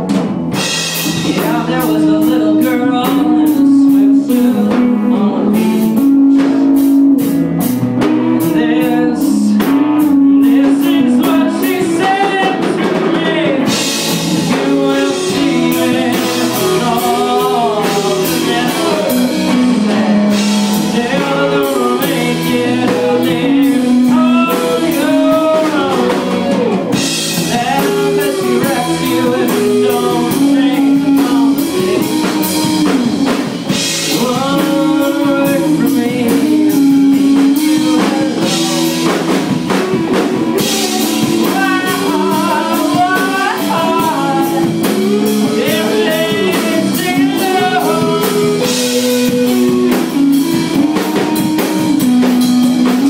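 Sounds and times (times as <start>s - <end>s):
bass guitar: 0.0s - 53.0s
drum kit with cymbals: 0.0s - 53.0s
electric guitars: 0.0s - 53.0s
man singing: 0.5s - 53.0s.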